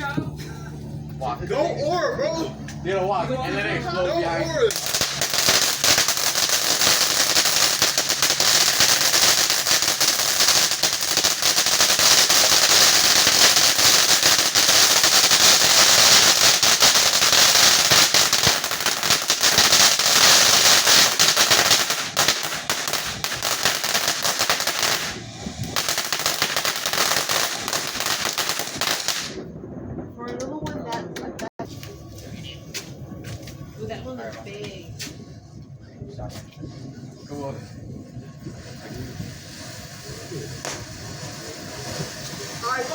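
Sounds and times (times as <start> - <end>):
firecrackers popping: 4.7 - 33.9, 37.8 - 42.9.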